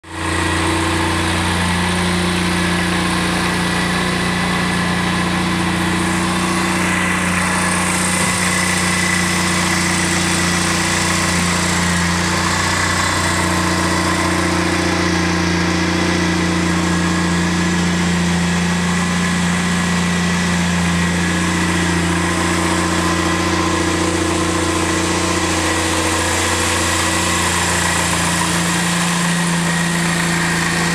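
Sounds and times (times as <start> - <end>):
scooter engine idling: 0.0 - 30.9.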